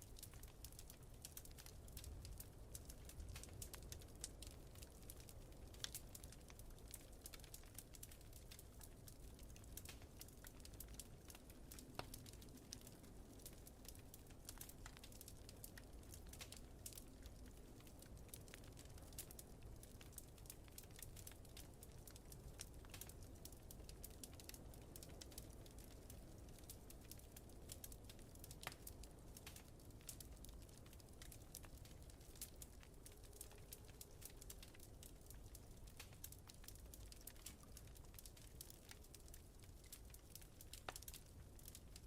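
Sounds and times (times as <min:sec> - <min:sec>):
low fire rumble: 0:00.0 - 0:42.0
wood fire crackling: 0:00.0 - 0:42.0.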